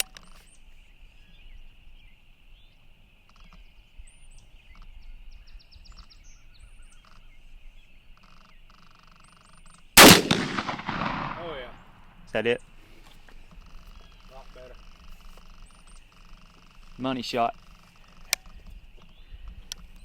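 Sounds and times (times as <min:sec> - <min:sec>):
bird chirps: 0:00.1 - 0:09.9, 0:13.4 - 0:20.0.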